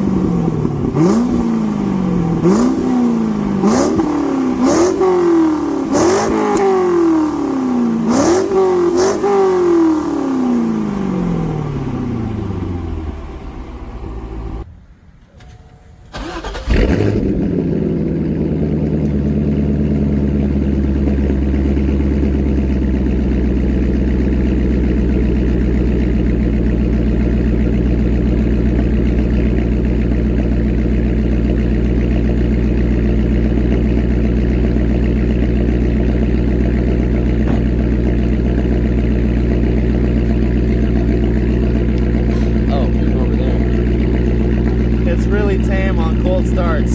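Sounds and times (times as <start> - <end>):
car engine revving and idling: 0.0 - 14.7, 15.6 - 46.9.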